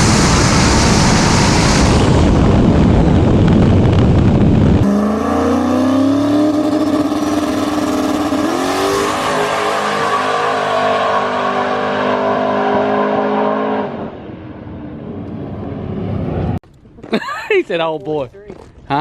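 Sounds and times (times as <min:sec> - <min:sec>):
race car engine at full throttle: 0:00.0 - 0:16.6.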